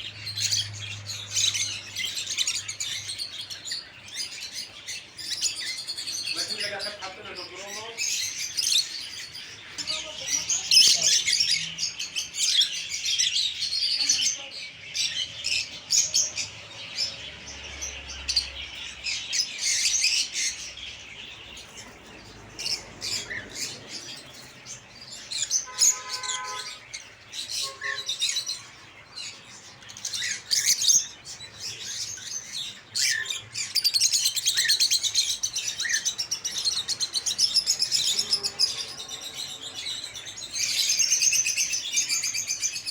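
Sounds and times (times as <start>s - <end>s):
cage birds chirping: 0.0s - 42.9s.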